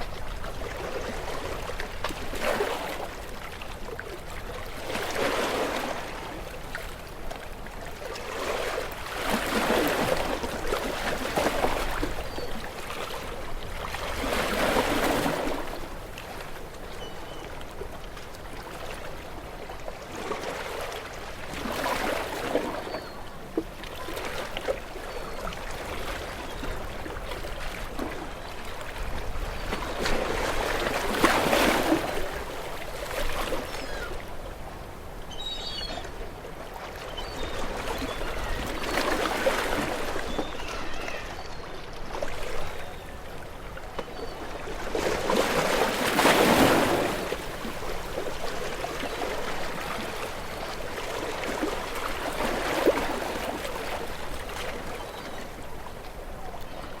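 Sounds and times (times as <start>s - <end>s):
small waves washing ashore: 0.0s - 57.0s.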